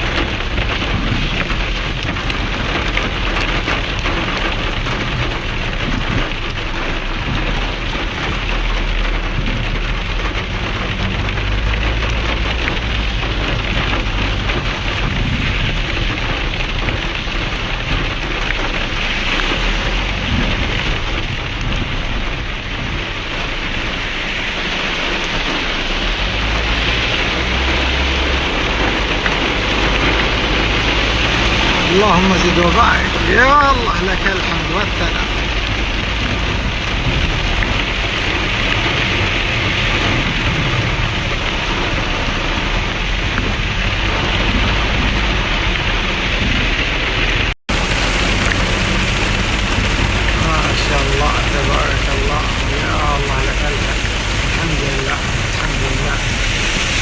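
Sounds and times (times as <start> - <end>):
heavy rain falling: 0.0 - 57.0
low rumble: 0.0 - 57.0.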